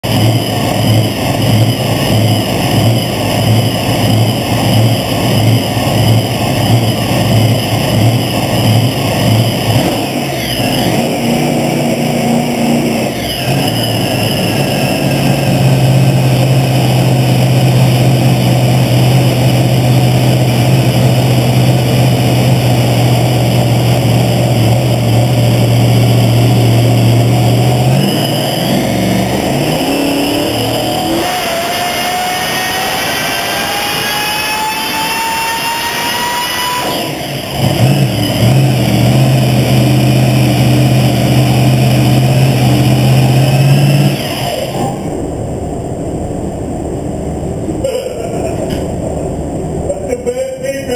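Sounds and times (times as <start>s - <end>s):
whine rising in pitch: 0.0s - 50.3s
engine low drone: 0.0s - 50.9s.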